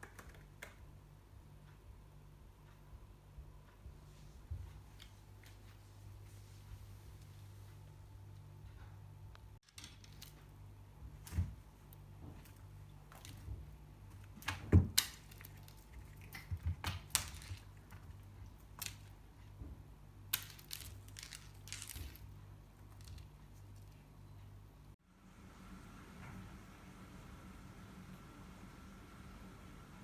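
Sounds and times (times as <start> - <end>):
steady low hum: 0.5 - 30.0.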